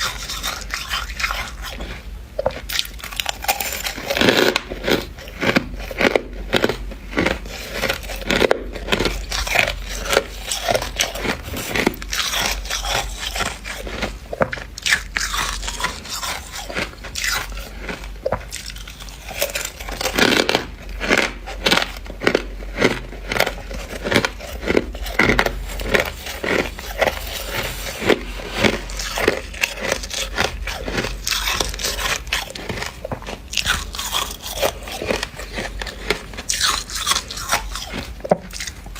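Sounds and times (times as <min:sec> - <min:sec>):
frost being chewed: 0:00.0 - 0:38.9.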